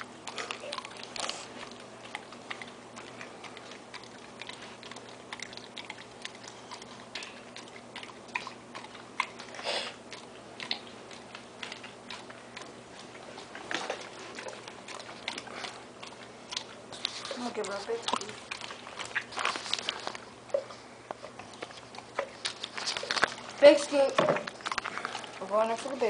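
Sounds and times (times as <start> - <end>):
dog licking and chewing: 0.0 - 26.0.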